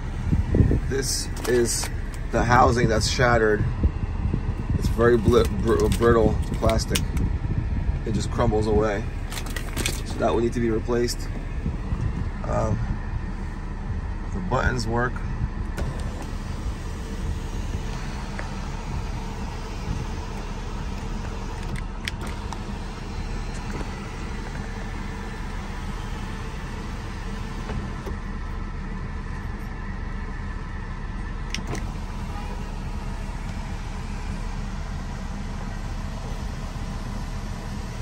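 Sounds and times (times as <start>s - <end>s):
car cabin engine hum: 0.0s - 38.0s.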